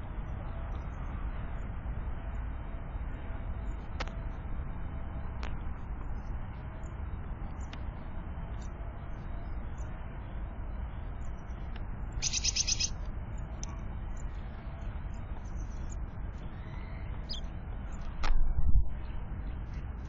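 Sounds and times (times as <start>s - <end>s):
songbirds chirping: 0.0s - 18.3s, 18.9s - 20.0s.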